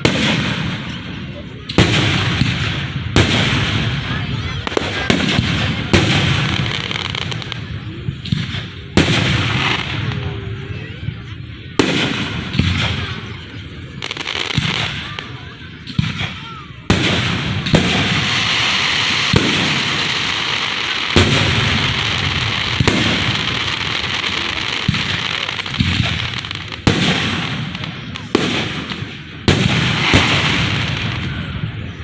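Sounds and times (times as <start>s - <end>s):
fireworks exploding: 0.0s - 32.0s.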